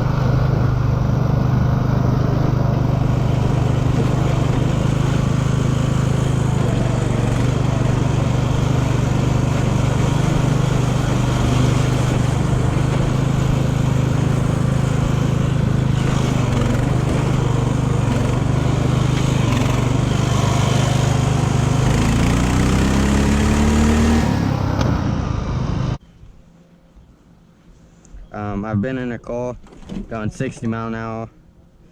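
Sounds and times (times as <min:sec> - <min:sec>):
riding mower engine running: 0:00.0 - 0:26.0.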